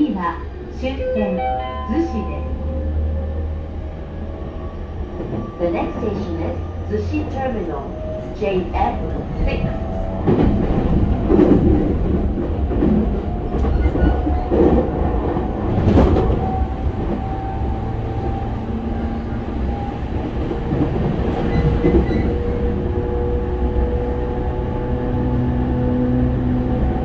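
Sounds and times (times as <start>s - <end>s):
train running rumble: 0.0s - 27.0s.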